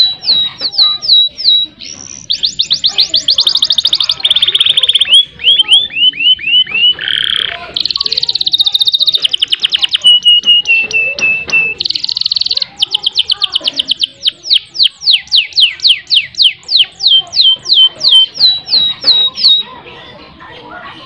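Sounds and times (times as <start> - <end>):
canary singing trills and whistles: 0.0 - 19.8.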